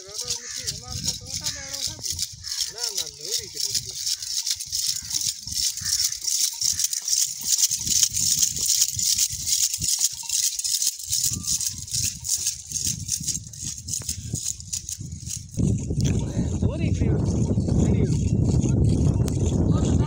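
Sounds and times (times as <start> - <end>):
harness bells jingling: 0.0 - 20.0.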